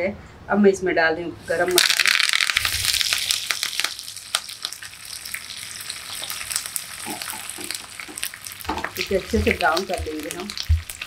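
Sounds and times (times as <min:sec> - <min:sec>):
spices sizzling in hot oil: 0:01.4 - 0:11.0
oil popping and crackling: 0:01.7 - 0:11.0.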